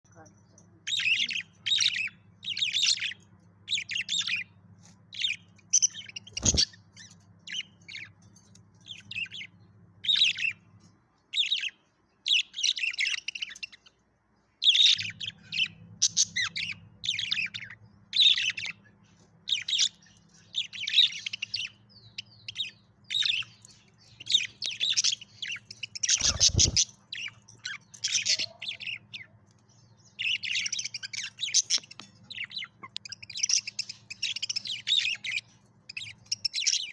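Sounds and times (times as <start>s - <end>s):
budgerigars chirping and chattering: 0.1s - 14.0s, 14.6s - 36.9s.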